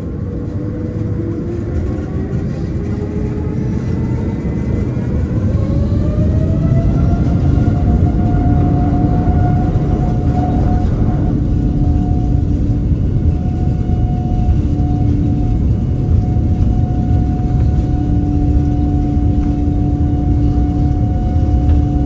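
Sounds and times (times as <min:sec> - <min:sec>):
deep engine rumble: 0:00.0 - 0:22.0
jet engine whine: 0:00.0 - 0:22.0.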